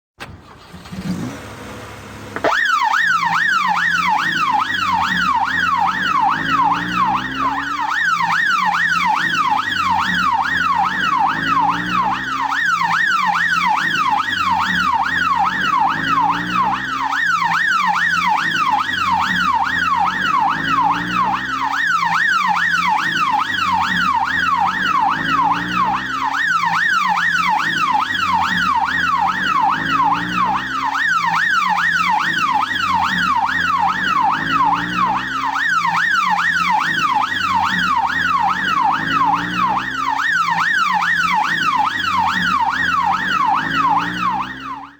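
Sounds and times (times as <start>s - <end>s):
car engine pulling away: 0.2s - 44.9s
police siren yelping: 2.2s - 44.9s.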